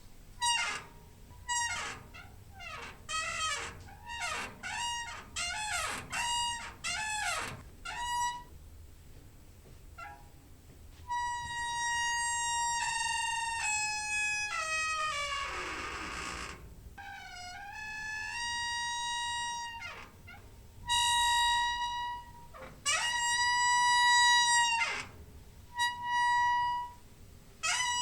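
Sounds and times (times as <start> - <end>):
squeaking door hinge: 0.0 - 8.5, 10.0 - 10.4, 11.1 - 27.0, 27.6 - 28.0.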